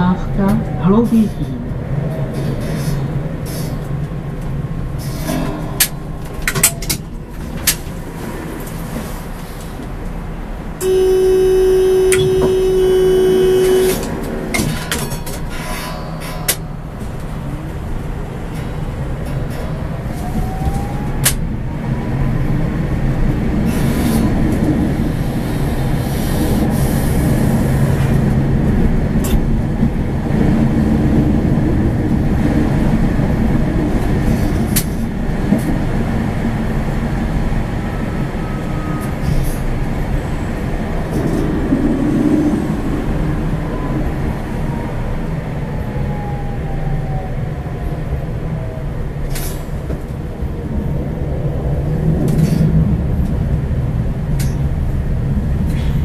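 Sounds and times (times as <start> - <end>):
tram wheels rumbling on track: 0.0 - 56.0.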